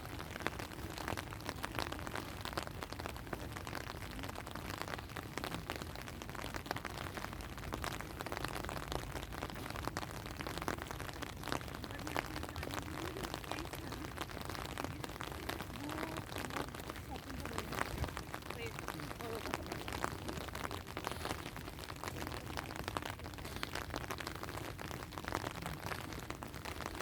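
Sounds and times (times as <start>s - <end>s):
rain falling: 0.0s - 27.0s
raindrops ticking close by: 0.0s - 27.0s.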